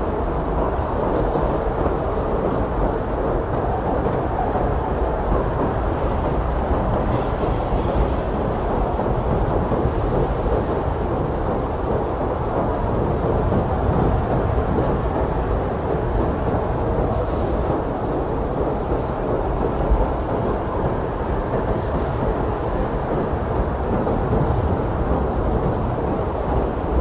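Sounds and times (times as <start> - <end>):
blizzard wind blowing: 0.0 - 27.0.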